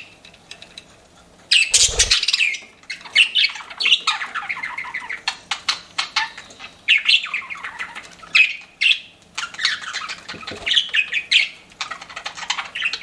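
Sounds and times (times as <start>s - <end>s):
budgerigars chattering and chirping: 1.5s - 13.0s.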